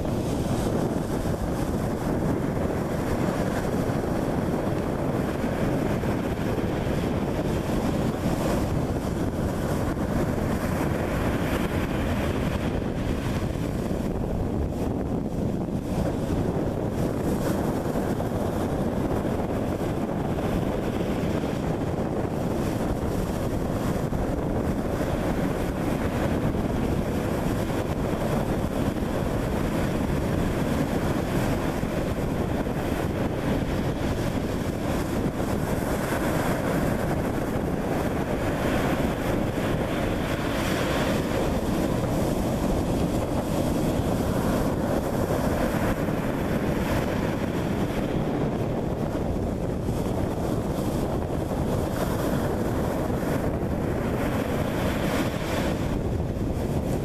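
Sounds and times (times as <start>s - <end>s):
surf washing: 0.0s - 57.0s
wind buffeting microphone: 0.0s - 57.0s.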